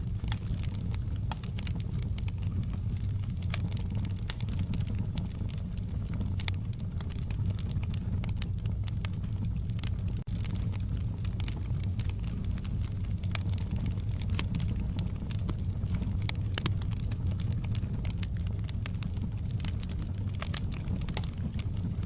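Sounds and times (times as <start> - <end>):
low rumble of flames: 0.0 - 22.0
wood fire crackling: 0.0 - 22.0.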